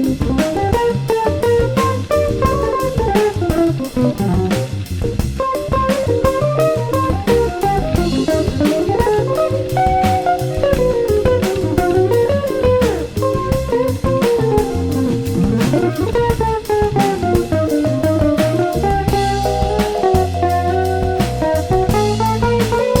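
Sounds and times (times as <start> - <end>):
plucked guitar melody: 0.0 - 4.6, 5.4 - 23.0
bass guitar: 0.0 - 23.0
drum kit beat: 0.0 - 23.0.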